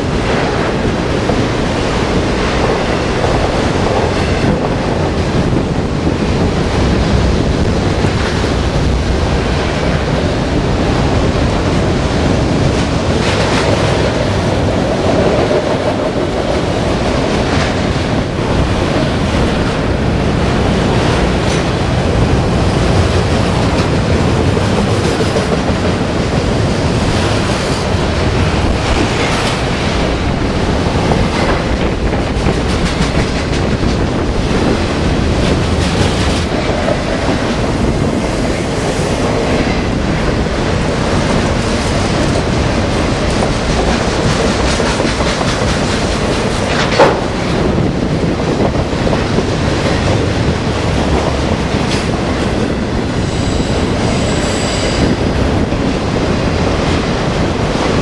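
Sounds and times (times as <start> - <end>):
steel train wheels rumbling on rail: 0.0 - 58.0
wheels clacking over rail joints: 0.0 - 58.0.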